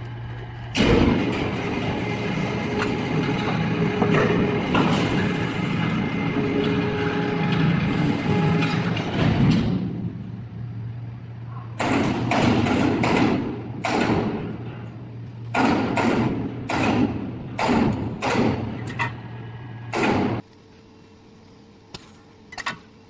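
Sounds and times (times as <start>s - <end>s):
welding machine hum: 0.0s - 20.5s.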